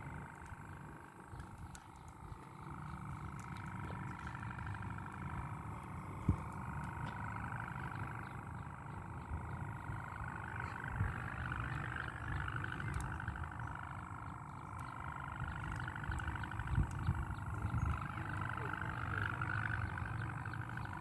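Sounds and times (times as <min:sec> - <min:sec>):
kite hummer droning: 0:00.0 - 0:21.0
wind rumble on microphone: 0:00.0 - 0:21.0.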